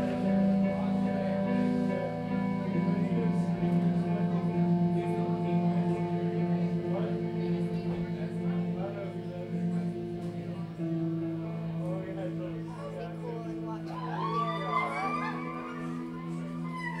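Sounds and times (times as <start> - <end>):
electric guitars holding notes: 0.0 - 17.0.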